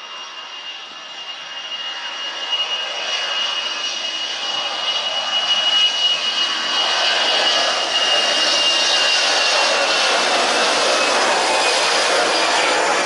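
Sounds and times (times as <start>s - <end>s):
jet engines rushing and whining: 0.0s - 13.0s.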